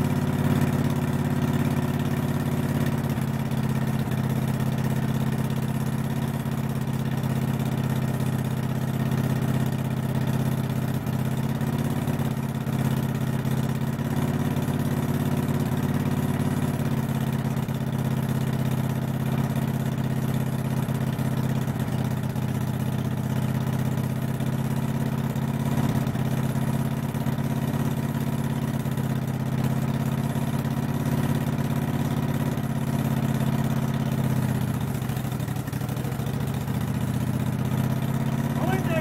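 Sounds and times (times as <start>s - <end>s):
riding lawn mower engine running: 0.0s - 39.0s.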